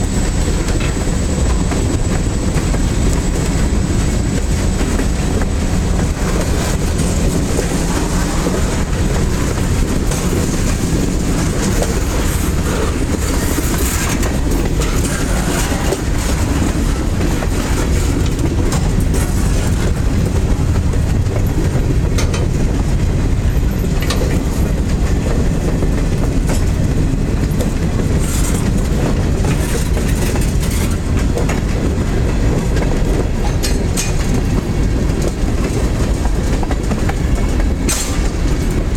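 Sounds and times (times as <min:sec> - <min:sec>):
rail joint clicks and clanks: 0:00.0 - 0:38.9
train wheels rumbling on rail: 0:00.0 - 0:38.9.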